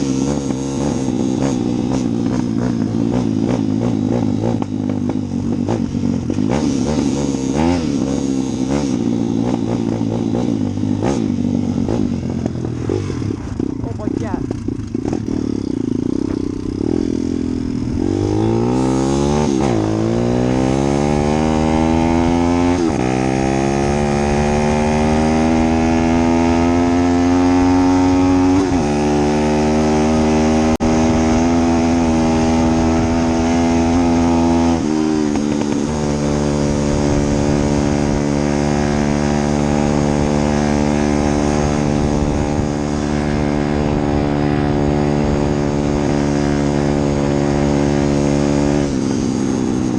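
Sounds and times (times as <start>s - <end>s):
vehicle engine accelerating: 0.0s - 49.9s.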